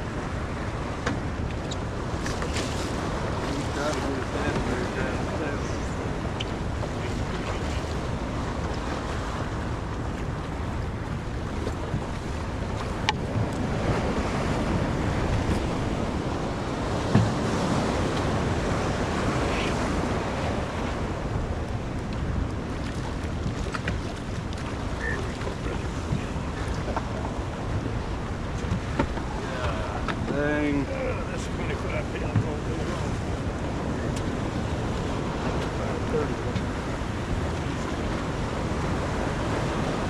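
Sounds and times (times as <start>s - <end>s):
waves washing: 0.0s - 40.0s
wind buffeting microphone: 0.0s - 40.0s.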